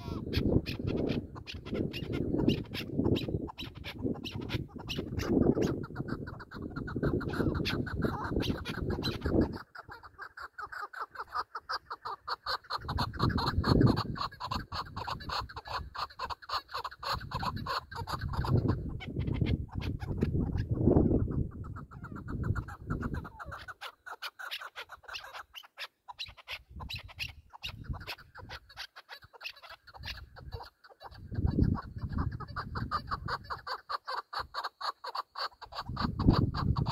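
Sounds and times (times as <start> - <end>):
partridge clucking calls: 0.0 - 36.9.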